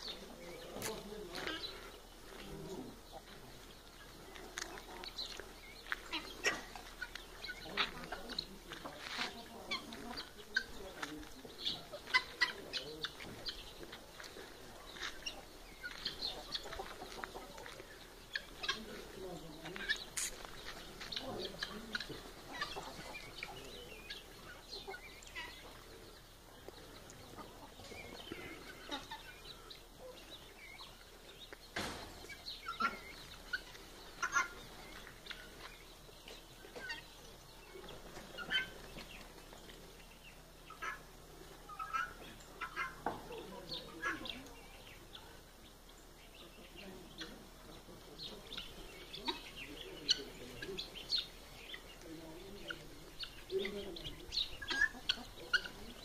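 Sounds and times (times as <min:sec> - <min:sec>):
birds chirping: 0:00.0 - 0:56.0
chickens and guineafowl calling: 0:00.0 - 0:56.0.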